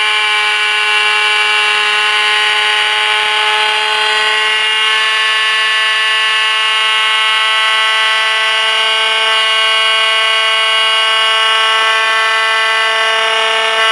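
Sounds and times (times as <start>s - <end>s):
rotary tool high-pitched whine: 0.0s - 13.9s.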